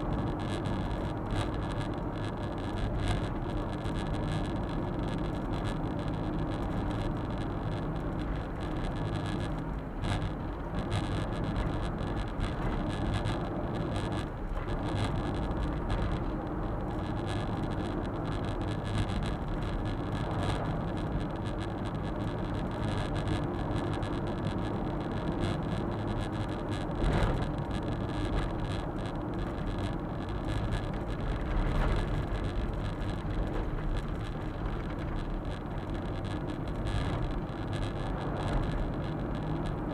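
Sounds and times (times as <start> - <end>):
tyre noise on road: 0.0 - 39.9.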